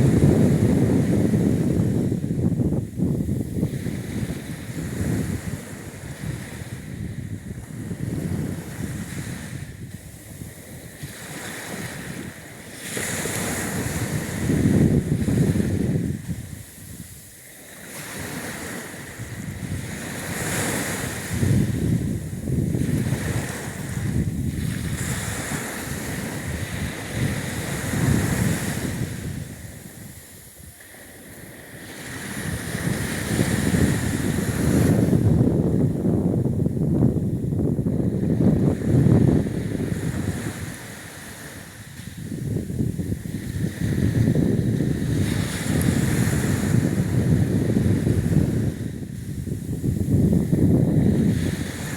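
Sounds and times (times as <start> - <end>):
surf washing onto shore: 0.0 - 51.9
wind buffeting microphone: 0.0 - 51.9.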